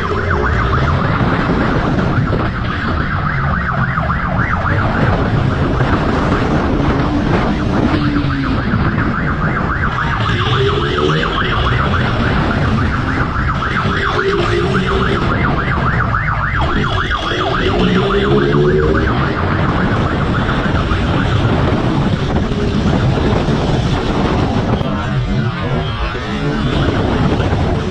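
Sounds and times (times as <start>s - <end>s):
police siren wailing: 0.0s - 27.9s.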